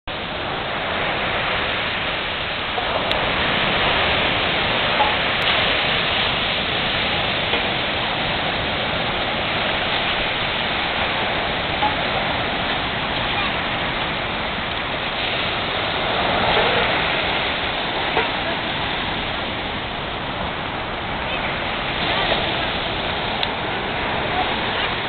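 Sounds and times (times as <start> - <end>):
surf breaking on beach: 0.1 - 25.0.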